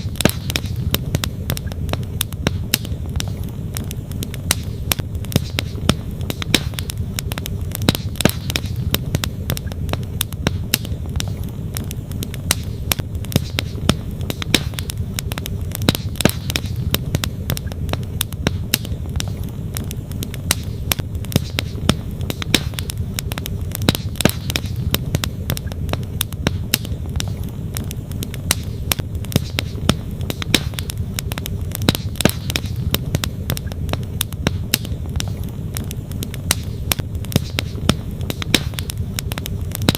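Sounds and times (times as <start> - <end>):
campfire wood crackling and popping: 0.0 - 39.9.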